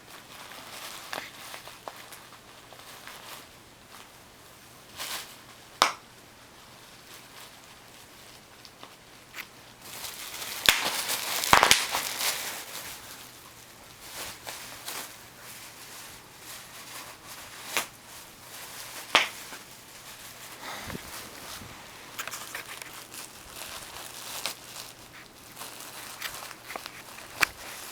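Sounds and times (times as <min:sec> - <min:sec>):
bubble wrap crinkling and popping: 0:00.0 - 0:27.9.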